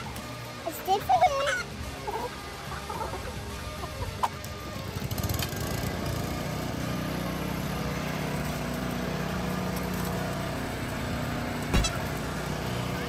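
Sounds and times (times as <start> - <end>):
lawn mower engine running: 1.7 - 13.0.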